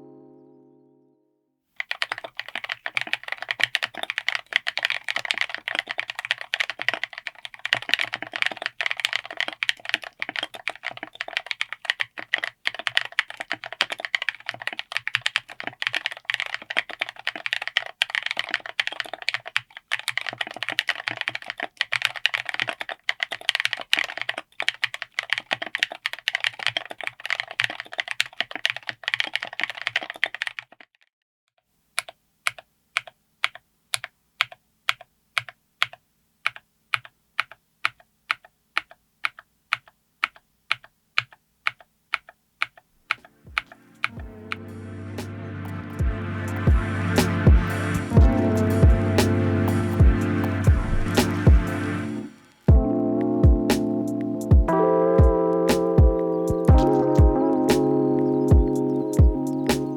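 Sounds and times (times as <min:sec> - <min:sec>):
typing on mechanical keyboard: 0:01.8 - 0:31.1, 0:32.0 - 0:44.6, 0:46.0 - 0:51.9, 0:52.7 - 0:59.9.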